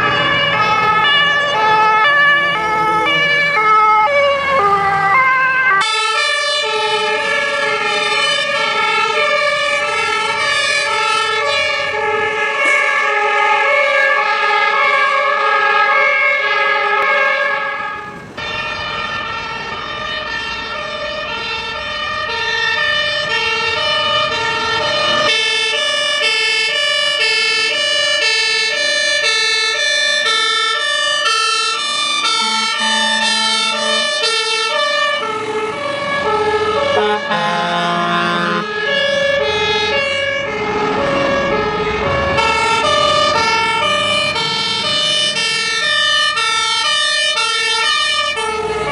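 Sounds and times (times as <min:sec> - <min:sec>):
fire engine two-tone sirens: 0:00.0 - 0:48.9.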